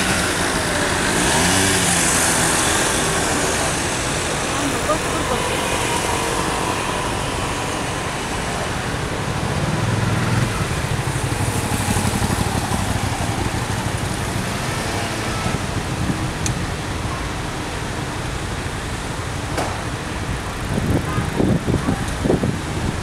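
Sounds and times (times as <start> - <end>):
steady road hiss: 0.0 - 23.0
traffic engines idling: 0.0 - 23.0.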